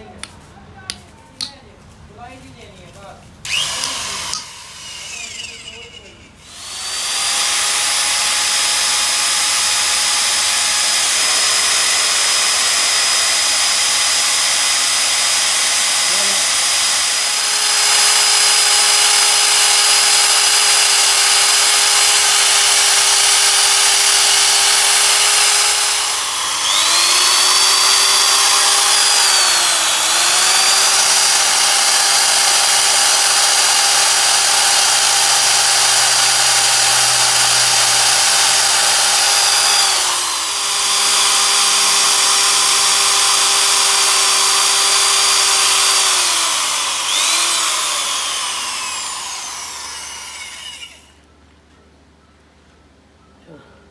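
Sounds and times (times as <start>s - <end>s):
electric drill boring through metal: 3.5s - 51.2s.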